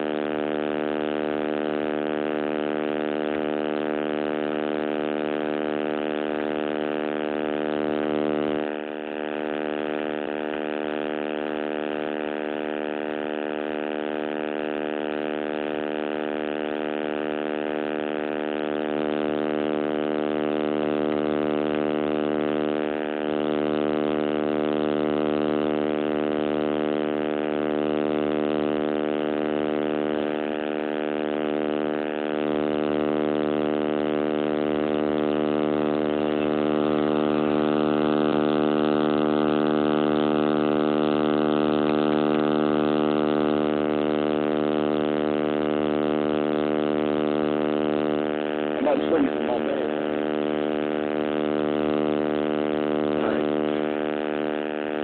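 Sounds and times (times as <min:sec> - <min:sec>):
loud buzz from phone microphone: 0:00.0 - 0:55.0.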